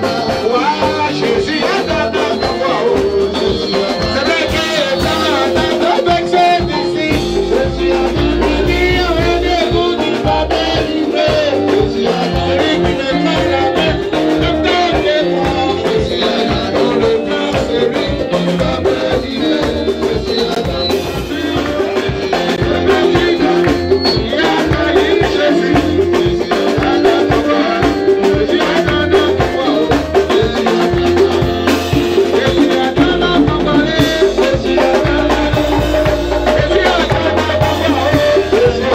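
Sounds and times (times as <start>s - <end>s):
amplified singing: 0.0s - 38.9s
band with drum kit: 0.0s - 38.9s.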